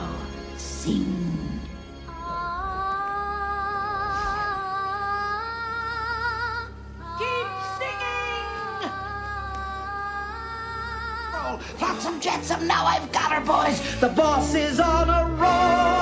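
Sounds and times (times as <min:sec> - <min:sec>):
woman singing wordless vocalise: 0:00.0 - 0:16.0.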